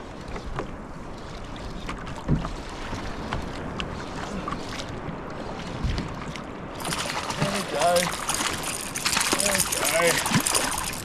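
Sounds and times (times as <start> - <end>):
water sloshing against kayak hull: 0.0 - 11.0.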